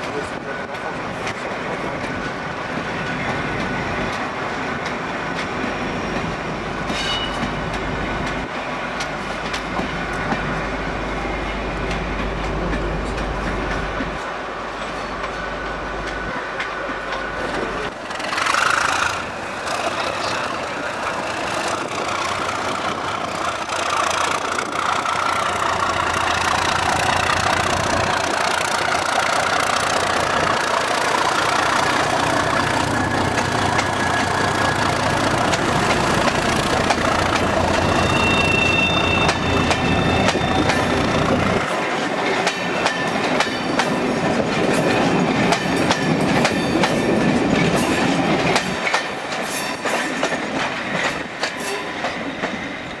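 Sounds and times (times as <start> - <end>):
train wheels clattering over rail joints: 0.0 - 52.9
diesel locomotive engine rumble: 0.0 - 53.0.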